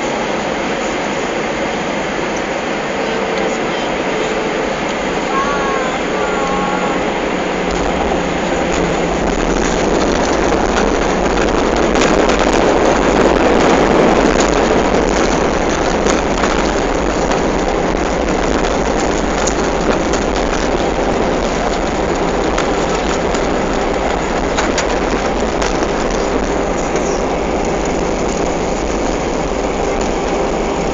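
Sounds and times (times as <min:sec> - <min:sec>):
airliner cabin engine roar: 0:00.0 - 0:30.9.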